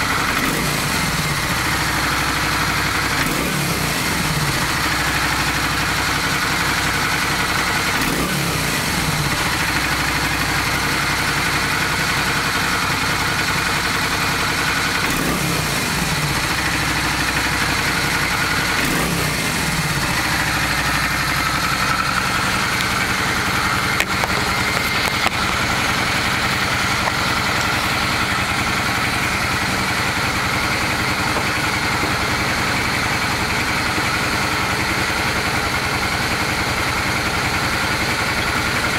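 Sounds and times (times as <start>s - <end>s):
engine knock: 0.0s - 38.9s
motorcycle engine idling and revving: 0.0s - 38.9s.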